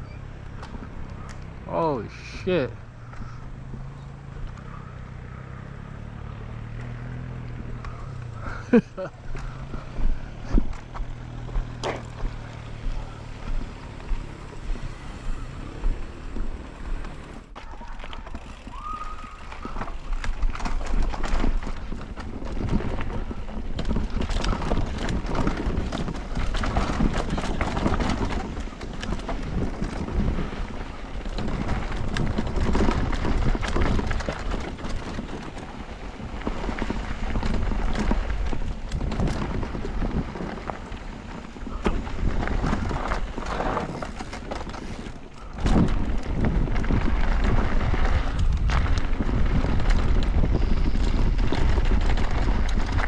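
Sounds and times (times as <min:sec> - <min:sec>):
bike tyres and frame clattering: 0:00.0 - 0:53.0
wind buffeting microphone: 0:07.4 - 0:53.0.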